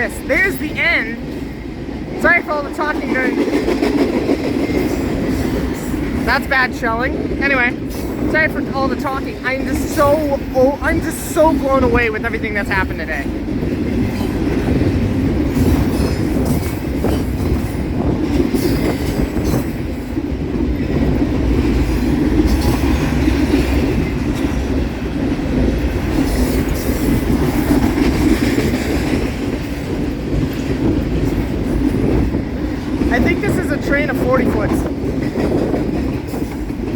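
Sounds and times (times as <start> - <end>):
freight train wheels on rail: 0.0 - 36.9.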